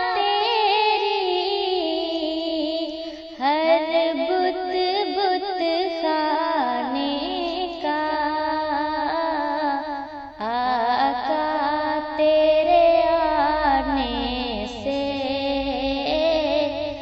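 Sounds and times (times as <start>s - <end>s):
woman singing devotional song: 0.0s - 17.0s.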